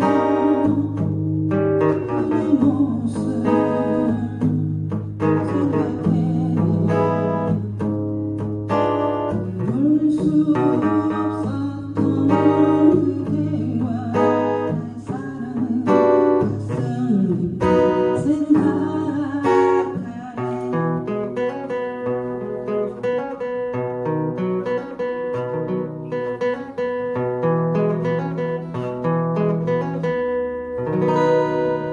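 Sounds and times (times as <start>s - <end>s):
guitar strumming: 0.0s - 31.9s.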